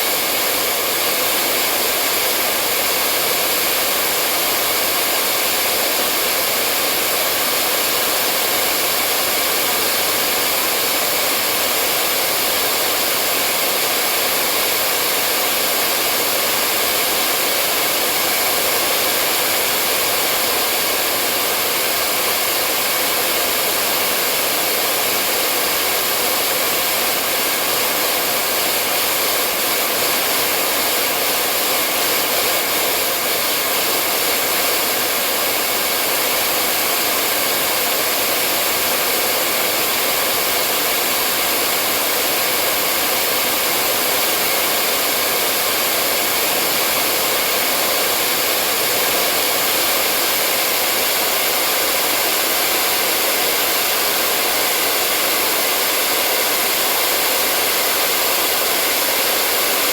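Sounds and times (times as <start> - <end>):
hair dryer blowing: 0.0 - 59.9.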